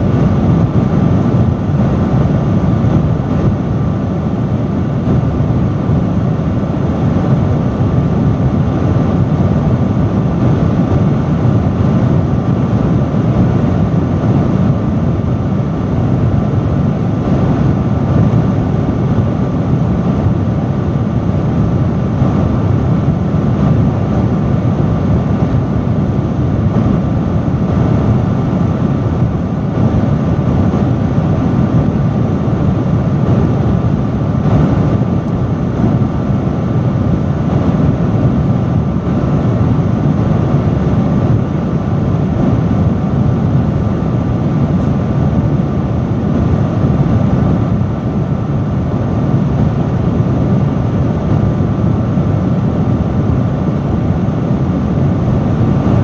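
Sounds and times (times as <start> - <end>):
industrial fan running: 0.0 - 56.0.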